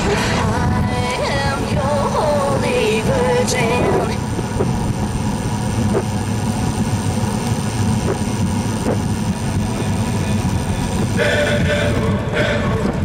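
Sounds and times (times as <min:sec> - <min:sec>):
bicycle tyre noise: 0:00.0 - 0:13.0.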